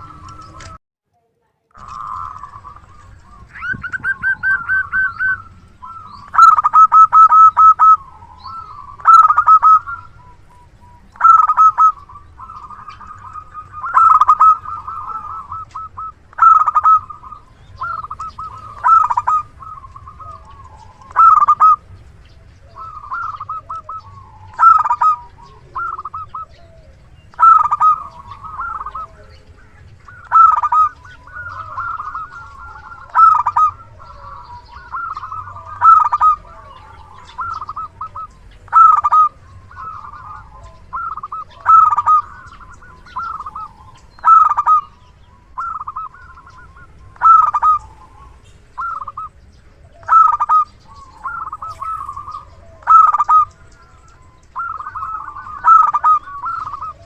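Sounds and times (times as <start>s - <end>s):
dove cooing: 0.0s - 0.8s, 1.8s - 57.0s.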